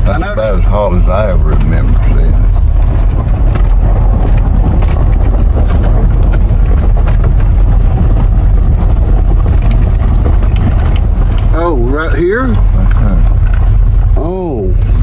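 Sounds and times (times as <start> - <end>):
light rattles: 0.0 - 15.0
vehicle rumbling while driving: 0.0 - 15.0
wind buffeting microphone: 0.0 - 15.0.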